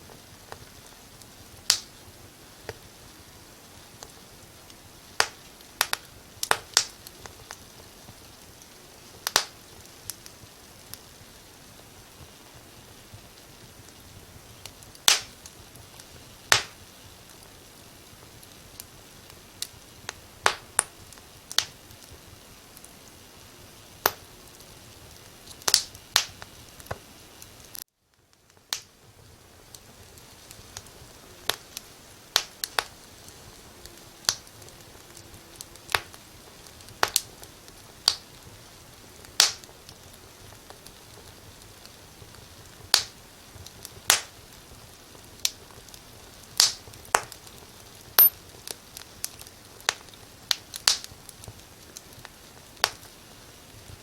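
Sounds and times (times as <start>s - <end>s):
soft steady hiss: 0.0s - 54.0s
wood fire crackling and popping: 0.0s - 54.0s.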